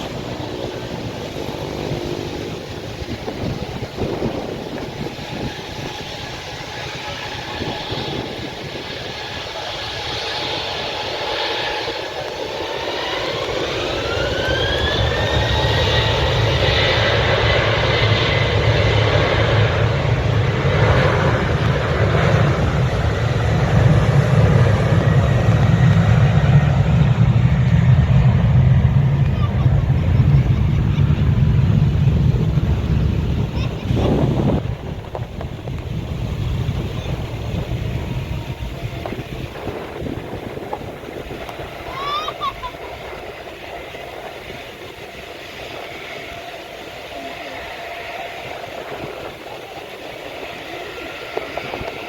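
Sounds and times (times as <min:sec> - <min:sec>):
jet engine low rumble: 0:00.0 - 0:52.0
jet engine whine: 0:00.0 - 0:52.0.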